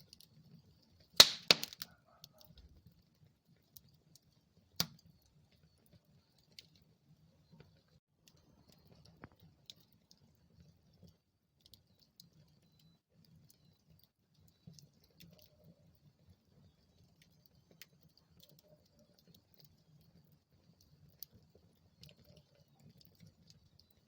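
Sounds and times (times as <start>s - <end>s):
fire crackling and popping: 0.0s - 7.6s, 8.2s - 24.0s
low rumble of burning logs: 0.0s - 24.0s.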